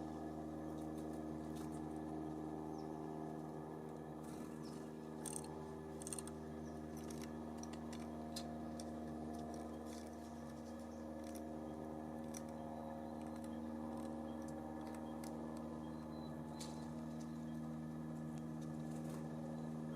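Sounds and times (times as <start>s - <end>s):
steady low hum: 0.0s - 19.9s
birds pecking at a feeder: 3.2s - 19.4s.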